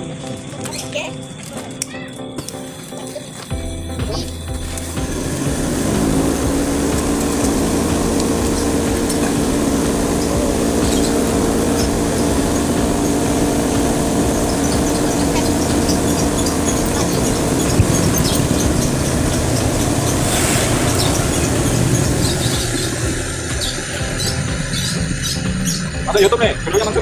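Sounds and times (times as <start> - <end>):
cotton candy machine humming: 0.0 - 27.0.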